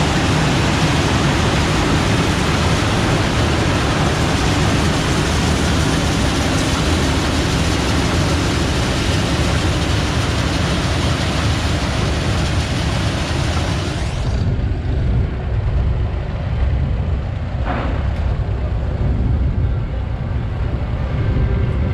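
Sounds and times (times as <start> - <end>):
loud rushing machinery noise: 0.0 - 21.9
low engine rumble: 0.0 - 21.9.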